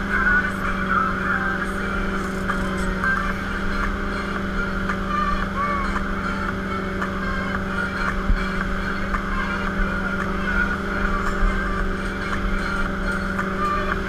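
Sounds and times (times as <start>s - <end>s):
boat engine droning: 0.0s - 14.0s
churning water rushing: 0.0s - 14.0s.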